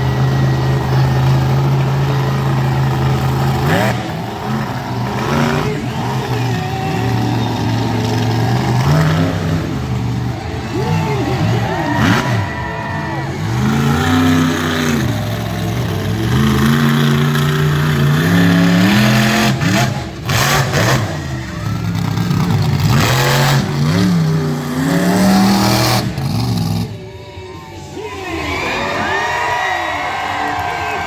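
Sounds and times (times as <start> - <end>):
truck engine revving hard: 0.0 - 27.1.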